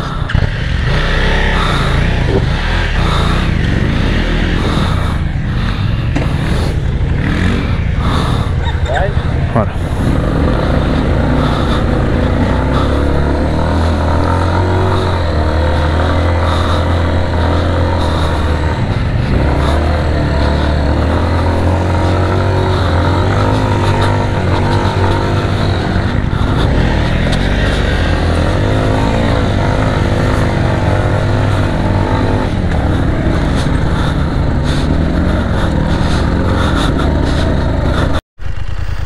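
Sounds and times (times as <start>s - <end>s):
motorcycle engine revving in sand: 0.0s - 39.0s.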